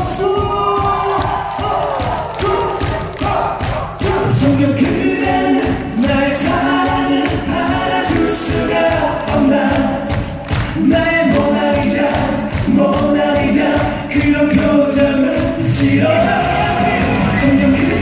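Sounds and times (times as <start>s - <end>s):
people singing: 1.6s - 18.0s
amplified backing track: 2.4s - 18.0s.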